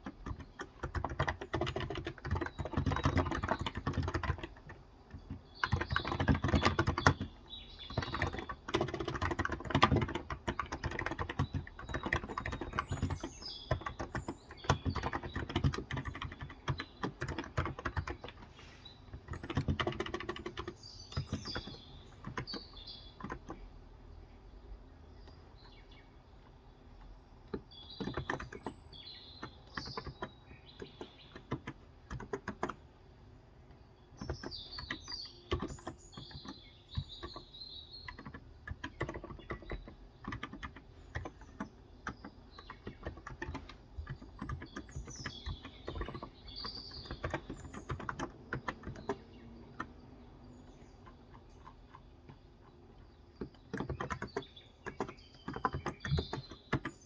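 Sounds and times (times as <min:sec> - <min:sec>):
keyboard typing: 0:00.0 - 0:23.7, 0:26.4 - 0:33.0, 0:33.6 - 0:57.0
birds chirping: 0:00.0 - 0:57.0.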